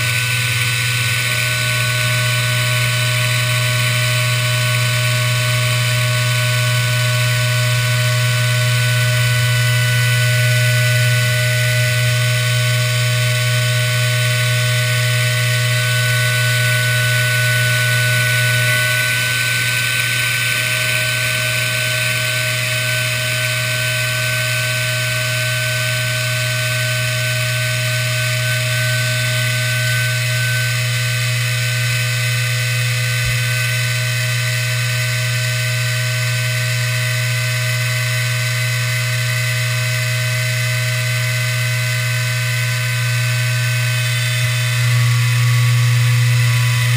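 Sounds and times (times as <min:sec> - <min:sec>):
cnc router machine whine: 0:00.0 - 0:46.9.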